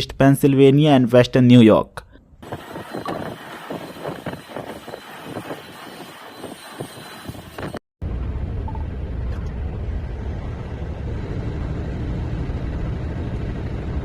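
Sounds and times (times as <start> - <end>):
low rumbling noise: 2.2 - 14.0.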